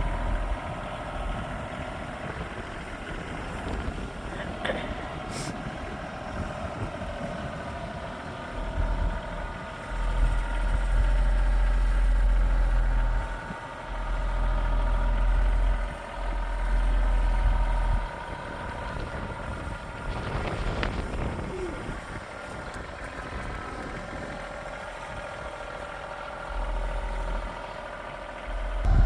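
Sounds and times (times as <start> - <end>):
tractor engine running: 0.0 - 29.0
wind buffeting microphone: 0.0 - 29.0.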